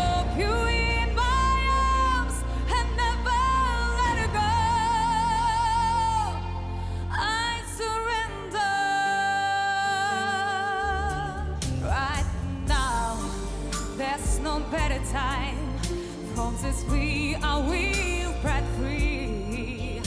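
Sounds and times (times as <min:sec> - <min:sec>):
bass: 0:00.0 - 0:20.0
person singing powerfully: 0:00.0 - 0:20.0.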